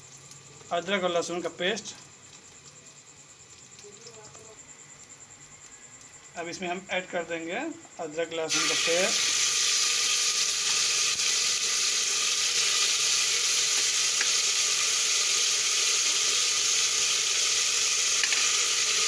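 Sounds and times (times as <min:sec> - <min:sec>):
paste sizzling in hot oil: 0:00.0 - 0:06.2, 0:08.4 - 0:19.0.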